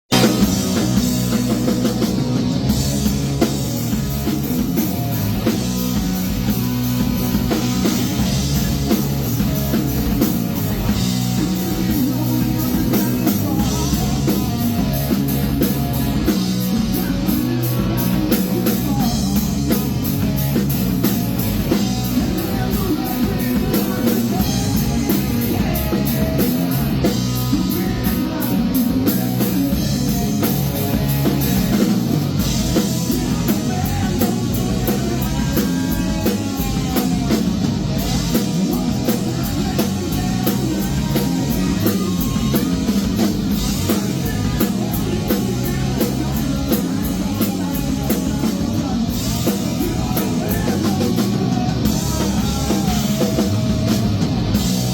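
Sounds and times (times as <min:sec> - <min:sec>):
drum kit: 0:00.0 - 0:54.9
electric guitar: 0:00.1 - 0:54.9.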